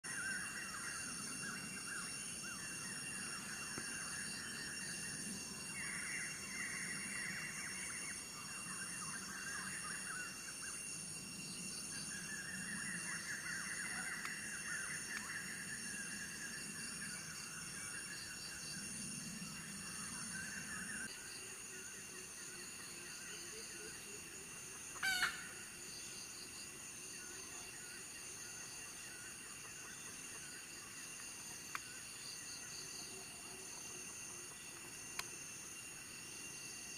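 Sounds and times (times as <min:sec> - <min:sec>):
insects chirring: 0:00.0 - 0:36.9.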